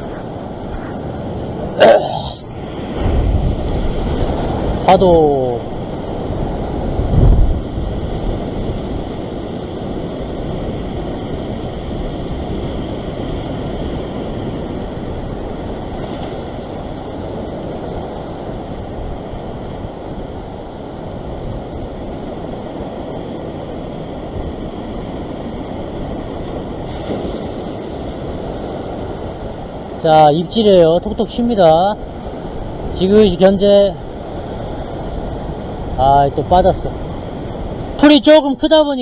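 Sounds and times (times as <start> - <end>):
ocean surf on rocks: 0.0 - 39.0
wind rumbling on microphone: 0.0 - 39.0.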